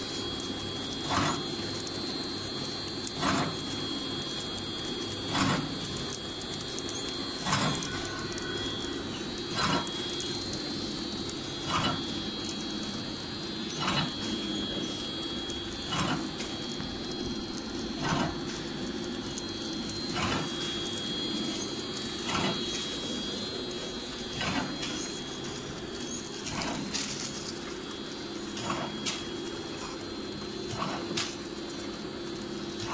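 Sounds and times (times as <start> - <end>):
sharp machine clack: 0.0 - 30.0
packing machine hum: 0.0 - 32.9.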